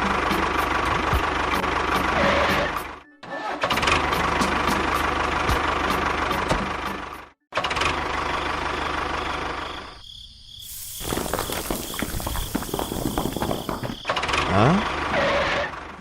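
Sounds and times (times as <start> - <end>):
engine running with a rattle: 0.0 - 3.0, 3.6 - 9.8, 11.1 - 16.0.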